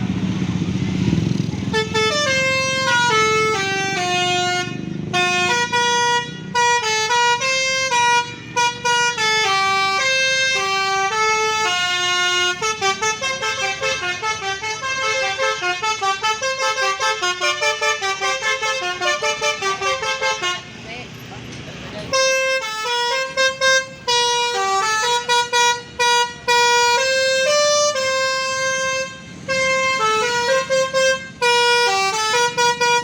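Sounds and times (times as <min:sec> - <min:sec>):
bus horn playing a tune: 0:01.3 - 0:20.8, 0:22.0 - 0:33.0.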